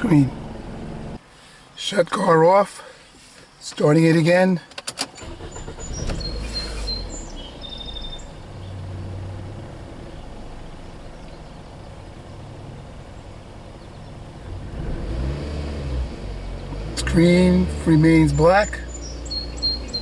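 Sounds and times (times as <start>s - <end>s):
car engine starting and idling: 0.0s - 1.2s, 4.7s - 20.0s.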